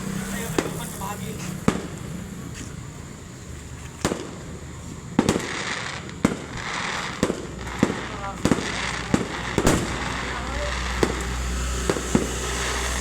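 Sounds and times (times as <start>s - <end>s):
fireworks bangs: 0.0s - 2.4s, 4.0s - 4.5s, 5.1s - 13.0s
fireworks hiss: 0.0s - 13.0s.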